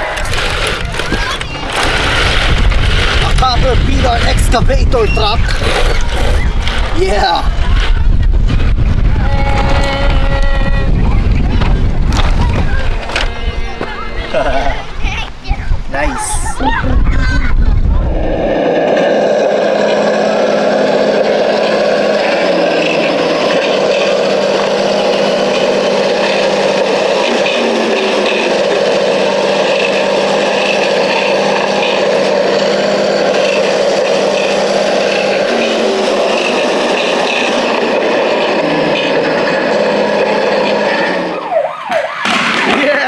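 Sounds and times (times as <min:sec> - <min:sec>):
toy motor and gearbox whirring: 0:00.0 - 0:14.6, 0:19.6 - 0:41.4.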